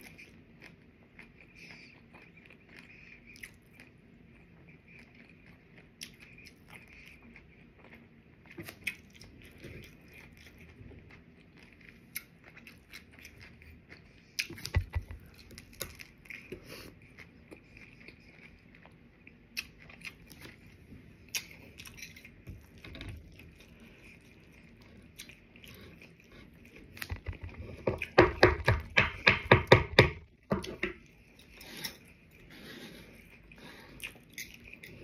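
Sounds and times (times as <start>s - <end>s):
small eating clicks: 0.0s - 35.0s.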